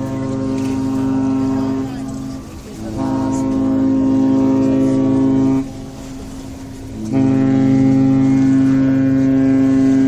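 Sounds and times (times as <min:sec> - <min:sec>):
ship horn blasts: 0:00.0 - 0:10.0.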